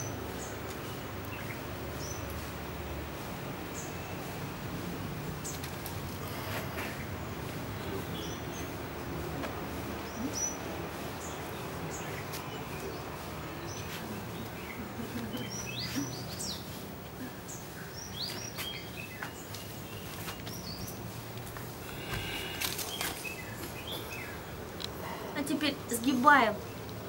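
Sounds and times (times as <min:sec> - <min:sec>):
outdoor background hiss: 0:00.0 - 0:27.0
small birds chirping: 0:00.0 - 0:27.0.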